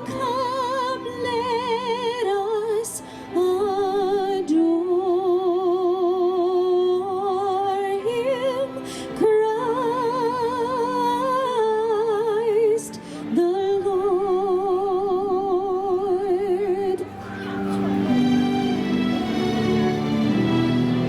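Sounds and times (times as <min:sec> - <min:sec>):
woman singing a carol: 0:00.0 - 0:17.1.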